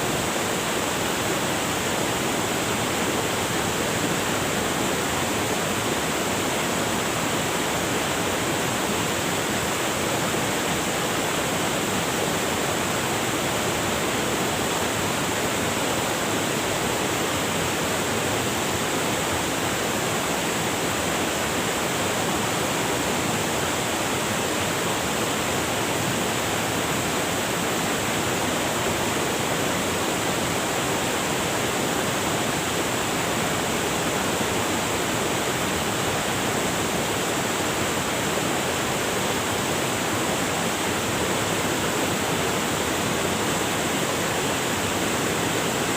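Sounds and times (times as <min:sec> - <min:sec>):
river rushing over rocks: 0:00.0 - 0:45.9.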